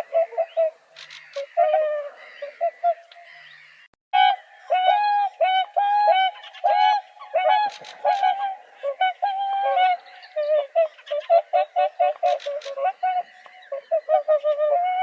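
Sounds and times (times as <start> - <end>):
swans honking: 0.0 - 15.0.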